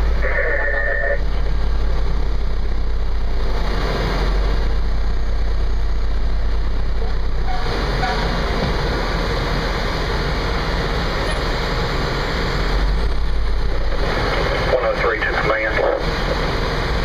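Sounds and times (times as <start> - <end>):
fire engine rumbling: 0.0 - 17.0
road noise: 0.0 - 17.0.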